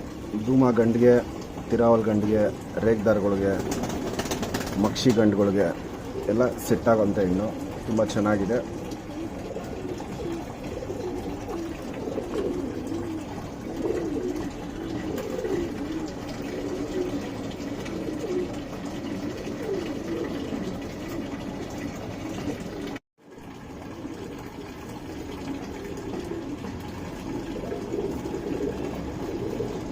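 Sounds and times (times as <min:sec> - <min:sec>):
pigeons cooing: 0:00.0 - 0:23.0, 0:23.8 - 0:29.9.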